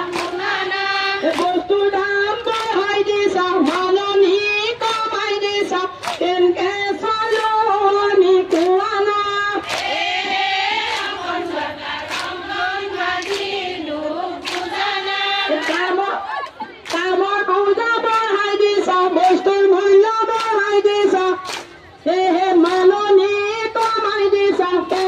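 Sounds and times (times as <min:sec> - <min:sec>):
hand claps: 0:00.0 - 0:13.7, 0:14.3 - 0:25.0
women singing together: 0:00.0 - 0:25.0.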